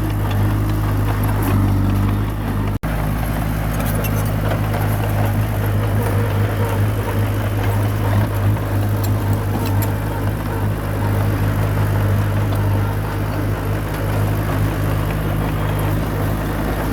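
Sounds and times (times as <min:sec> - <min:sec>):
bulldozer diesel engine running: 0:00.0 - 0:16.9.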